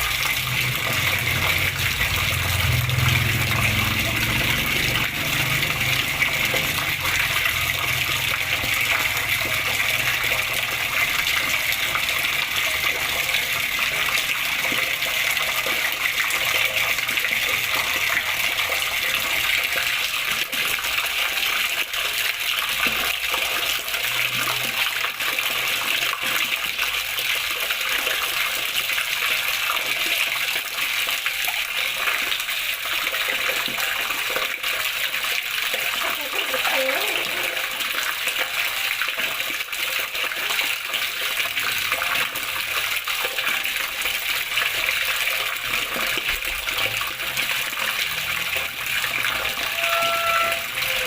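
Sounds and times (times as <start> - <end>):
flowing water splashing: 0.0 - 51.0.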